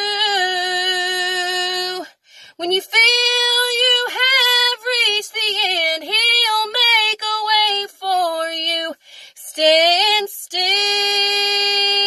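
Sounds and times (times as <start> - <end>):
woman singing gospel unaccompanied: 0.0 - 12.0.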